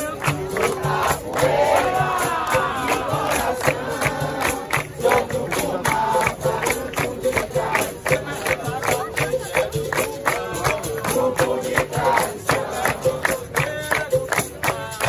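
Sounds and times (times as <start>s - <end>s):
berimbau and hand drum music: 0.0s - 15.0s
group singing a chant: 0.0s - 15.0s
hand-clapping: 0.0s - 15.0s.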